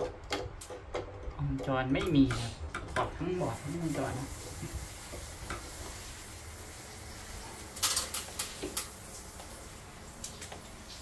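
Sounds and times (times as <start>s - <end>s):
steady low hiss: 1.6s - 11.0s.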